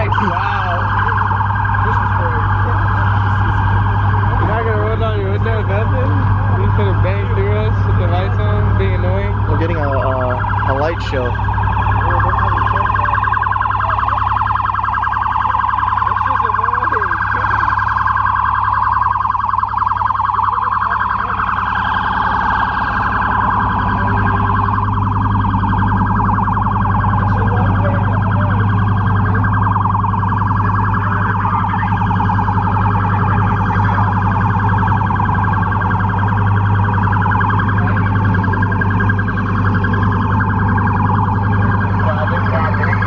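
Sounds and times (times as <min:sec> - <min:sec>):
police siren warbling: 0:00.0 - 0:43.0.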